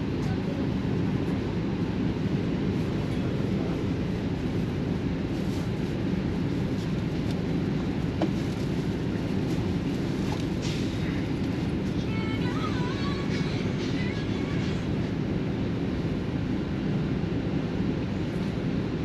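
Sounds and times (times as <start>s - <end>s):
vehicle cabin rumble: 0.0s - 19.0s.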